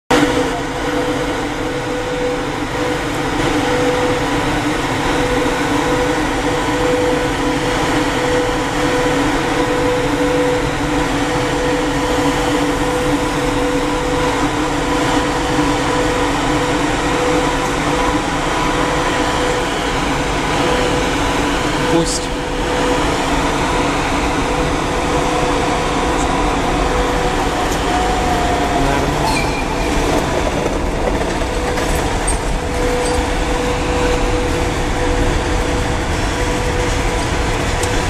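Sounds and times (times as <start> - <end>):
cooling blowers rushing: 0.1 - 38.0
electric locomotive hum and whine: 0.1 - 38.0.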